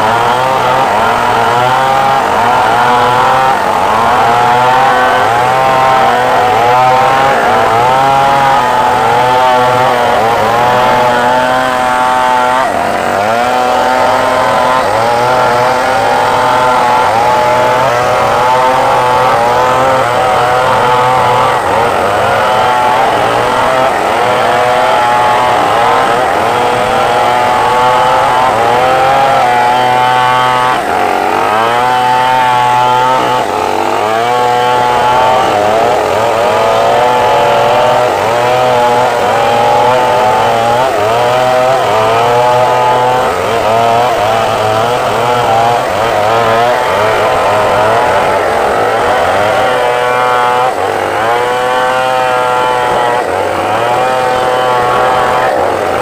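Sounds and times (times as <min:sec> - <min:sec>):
chainsaws cutting a log: 0:00.0 - 0:56.0.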